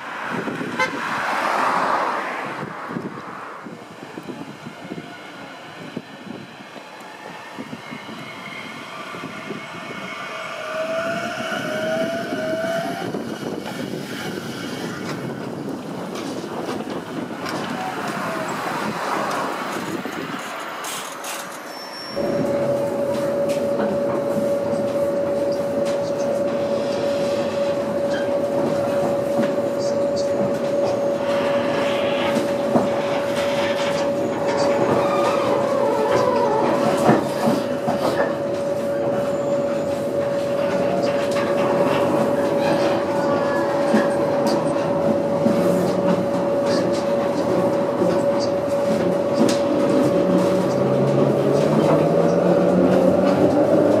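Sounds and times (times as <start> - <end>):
tram tyres rumbling and hissing: 0.0 - 54.0.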